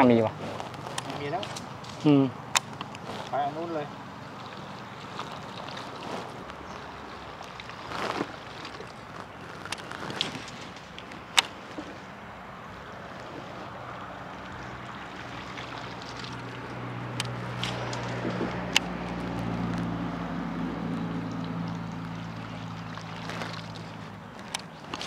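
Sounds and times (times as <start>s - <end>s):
boat engine humming: 0.0s - 25.0s
water noise: 0.0s - 25.0s
wind: 0.0s - 25.0s.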